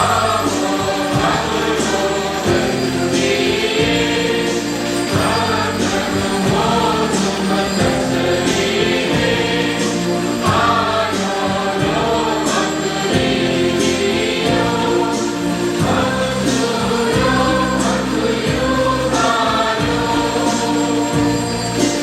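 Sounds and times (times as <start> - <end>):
choir singing a hymn: 0.0 - 22.0
instrumental accompaniment: 0.0 - 22.0.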